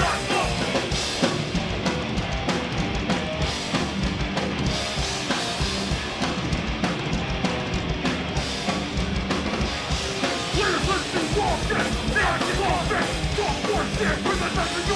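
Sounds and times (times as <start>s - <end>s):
bass drum and snare beat: 0.0s - 14.9s
punk band playing: 0.0s - 14.9s.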